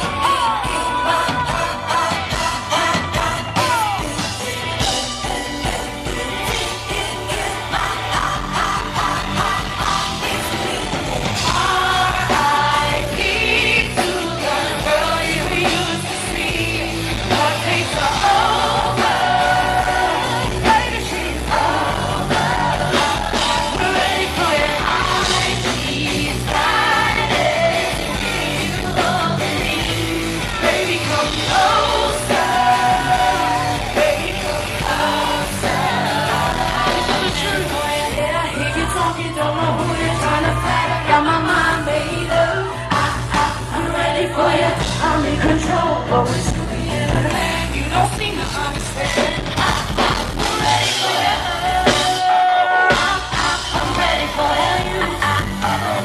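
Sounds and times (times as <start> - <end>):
live pop band with heavy bass: 0.0 - 56.0.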